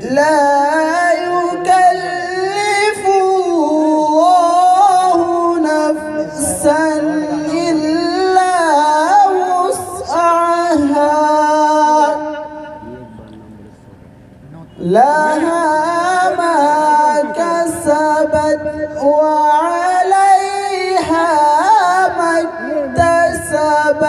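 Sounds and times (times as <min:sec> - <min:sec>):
man reciting melodically: 0:00.0 - 0:24.0.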